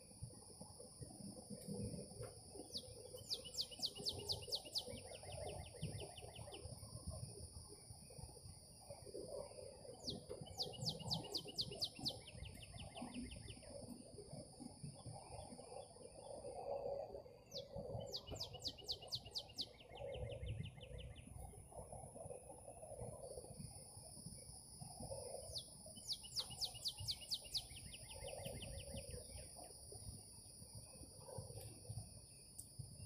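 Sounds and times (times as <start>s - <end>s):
insects droning: 0.0s - 33.0s
songbird singing with trill: 1.7s - 30.0s.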